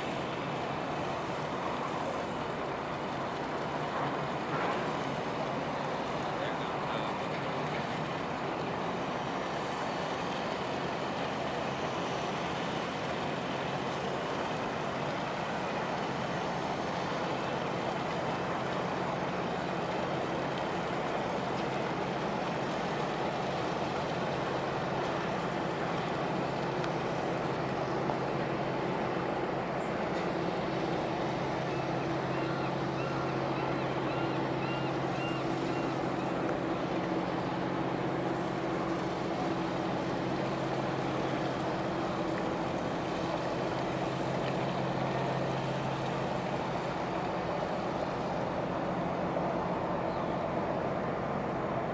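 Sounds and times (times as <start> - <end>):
boat diesel engine droning: 0.0 - 51.9
water rushing: 0.0 - 51.9.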